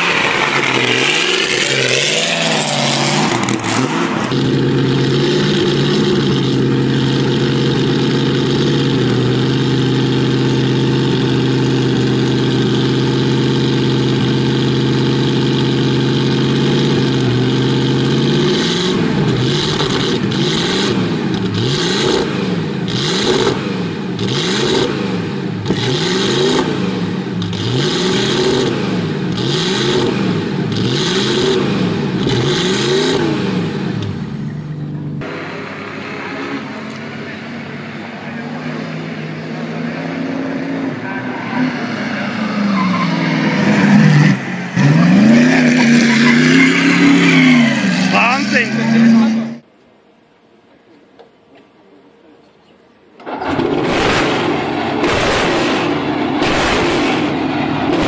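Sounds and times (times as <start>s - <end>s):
engine idling and revving: 0.0s - 49.7s, 53.2s - 58.0s.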